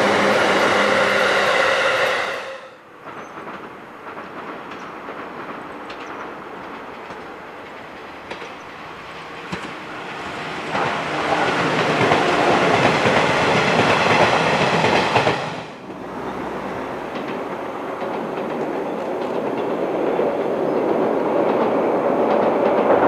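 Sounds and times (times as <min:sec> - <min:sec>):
distant train rumble: 0:00.0 - 0:23.0
train passing close by: 0:00.0 - 0:23.0.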